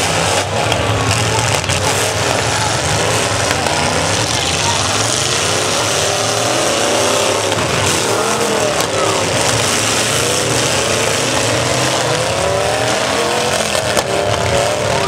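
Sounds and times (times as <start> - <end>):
truck engines revving hard: 0.0 - 15.0.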